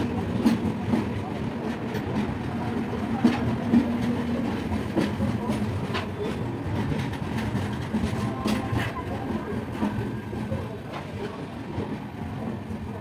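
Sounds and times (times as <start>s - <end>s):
train coaches rumbling: 0.0s - 13.0s.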